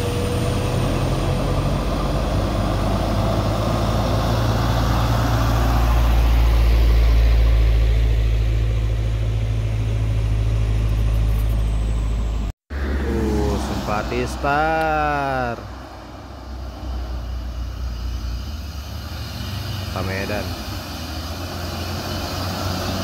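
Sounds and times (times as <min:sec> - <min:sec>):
heavy vehicle engine rumble: 0:00.0 - 0:23.0.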